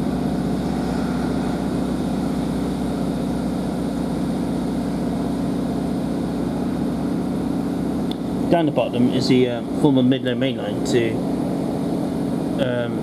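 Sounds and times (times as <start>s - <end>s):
train diesel engine droning: 0.0s - 13.0s.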